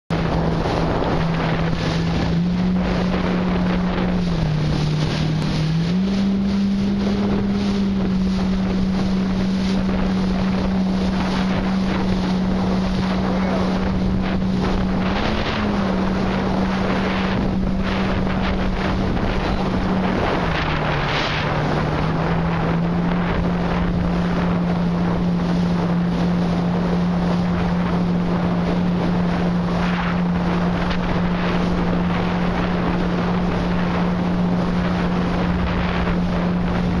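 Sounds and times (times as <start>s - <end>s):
jet ski engine at speed: 0.1s - 37.0s
wind buffeting microphone: 0.1s - 37.0s.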